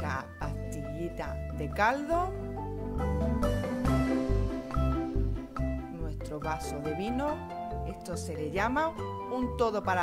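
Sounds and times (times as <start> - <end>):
pulsing bass: 0.0 - 9.6
instrumental background music: 0.0 - 10.0.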